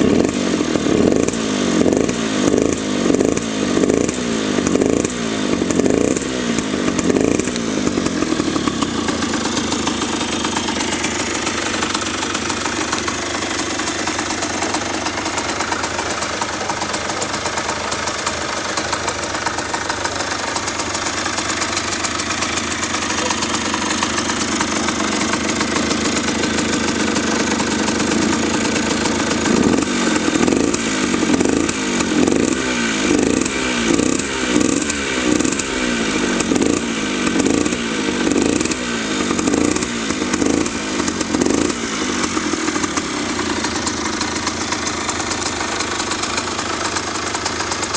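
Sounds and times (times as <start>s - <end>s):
motorcycle engine revving and idling: 0.0s - 47.9s.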